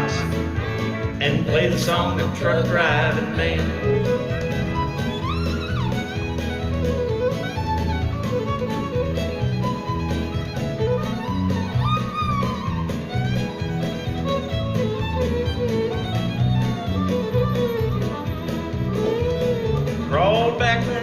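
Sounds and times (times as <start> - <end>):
bass and guitar rhythm: 0.0 - 21.0
fiddle melody: 0.0 - 21.0.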